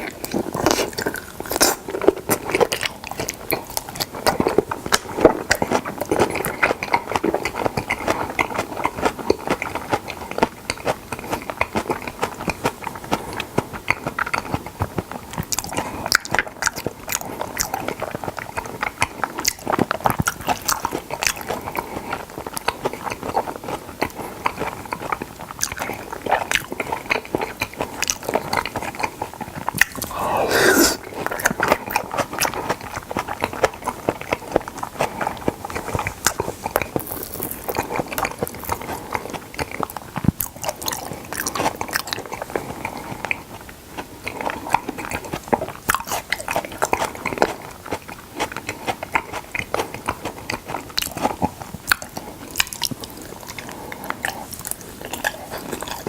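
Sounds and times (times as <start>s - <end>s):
wet chewing: 0.0s - 56.0s.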